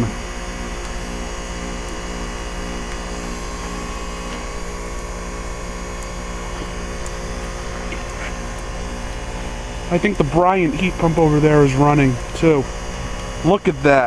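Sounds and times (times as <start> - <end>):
heat pump mechanical hum: 0.0 - 14.0.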